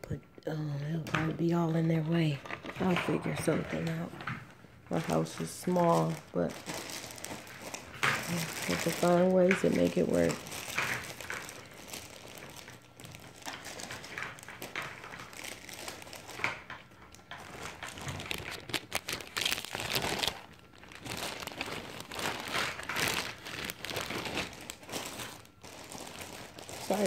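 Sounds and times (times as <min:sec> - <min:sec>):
plastic packaging crinkling: 0:01.1 - 0:27.0.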